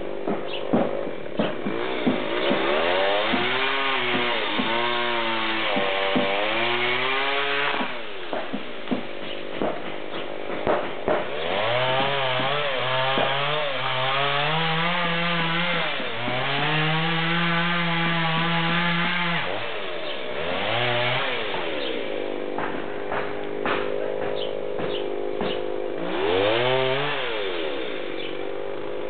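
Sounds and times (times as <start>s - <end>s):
chainsaw engine revving: 0.0s - 29.0s
sharp knocks: 0.2s - 19.6s, 20.5s - 27.2s.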